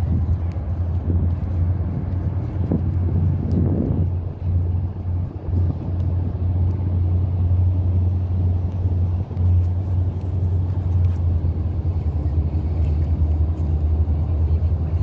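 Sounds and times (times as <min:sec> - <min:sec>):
freight train rumbling over bridge: 0:00.0 - 0:15.0.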